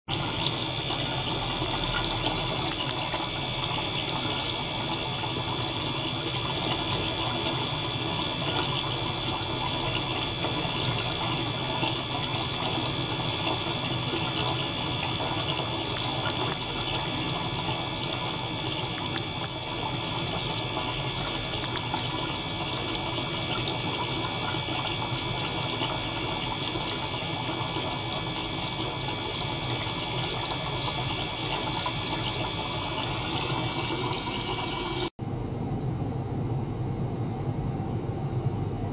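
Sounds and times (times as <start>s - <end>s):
circulation pump running: 0.0s - 38.9s
water stream falling into tank: 0.1s - 35.1s.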